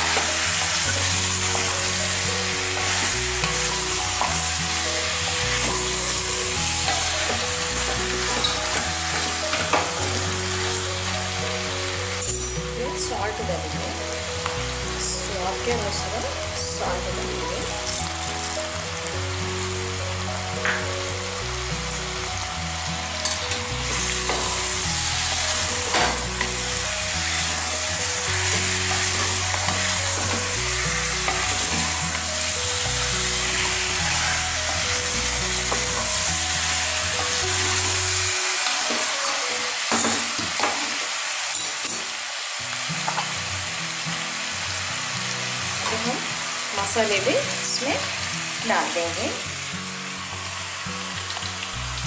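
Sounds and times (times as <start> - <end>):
chicken and onions sizzling in oil: 0.0 - 52.0.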